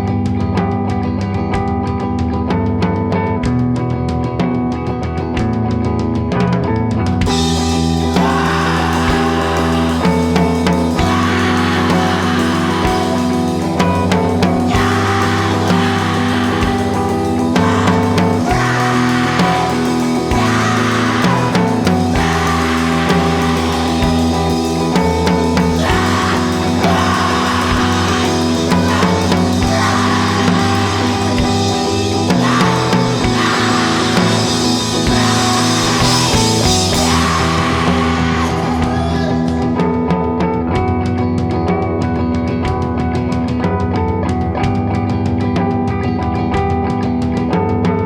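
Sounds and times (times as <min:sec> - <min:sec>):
rock band playing: 0:00.0 - 0:48.0.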